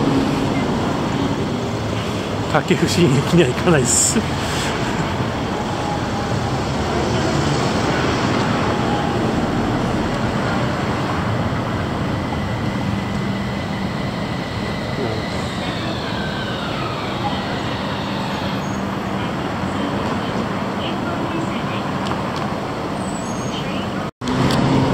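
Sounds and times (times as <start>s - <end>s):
electric tram motor whine: 0.0s - 20.4s.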